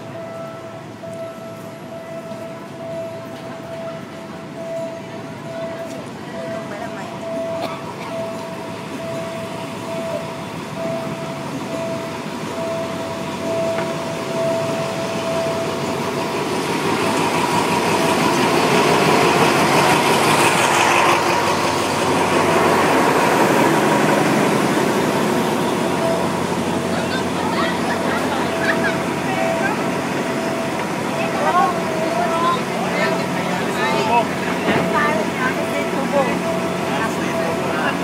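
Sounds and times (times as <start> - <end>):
diesel locomotive passing: 0.0 - 38.0.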